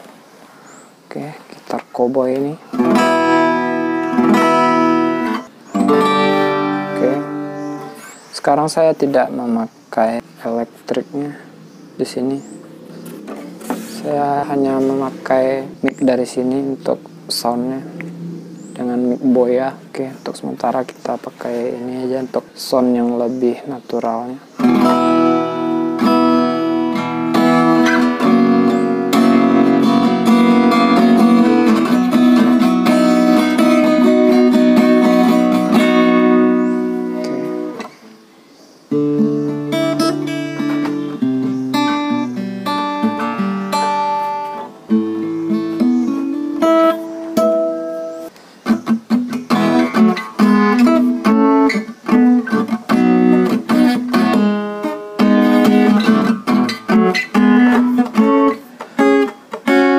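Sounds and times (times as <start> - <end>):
acoustic guitar playing: 1.2 - 23.6, 24.2 - 59.9.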